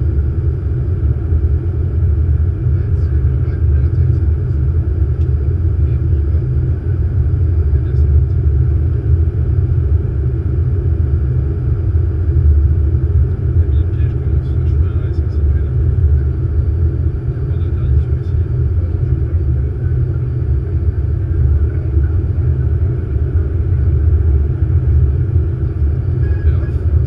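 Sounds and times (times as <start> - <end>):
airflow and engine rumble: 0.0 - 27.0.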